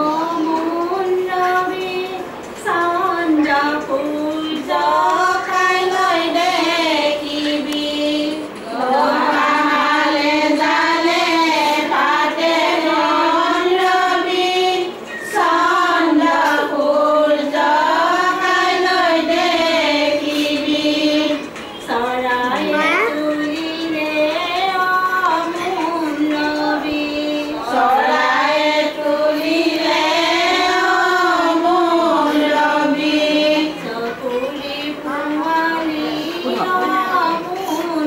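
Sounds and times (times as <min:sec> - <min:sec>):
women singing unaccompanied: 0:00.0 - 0:38.0.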